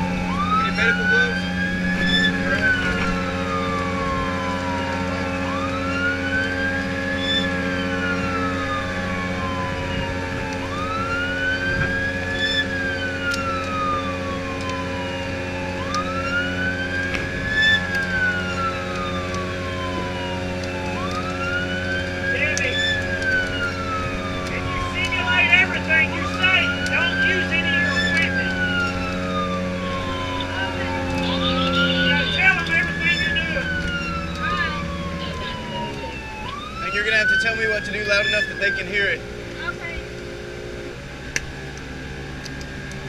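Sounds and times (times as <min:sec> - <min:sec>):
boat engine drone: 0:00.0 - 0:43.0
emergency siren wailing: 0:00.0 - 0:43.0.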